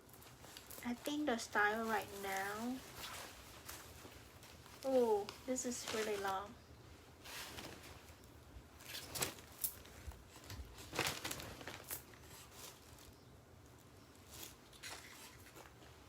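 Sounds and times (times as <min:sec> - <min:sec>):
fabric and packaging rustling: 0:00.0 - 0:16.0.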